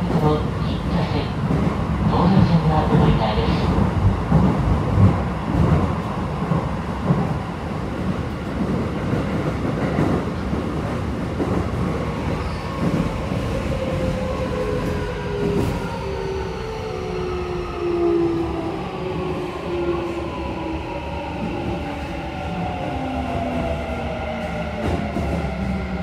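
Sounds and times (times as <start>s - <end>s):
train wheel and tunnel rumble: 0.0s - 26.0s.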